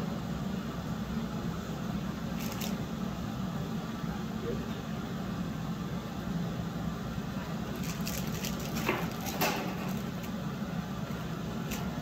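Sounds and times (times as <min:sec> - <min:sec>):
furnace and blower hum: 0:00.0 - 0:12.0.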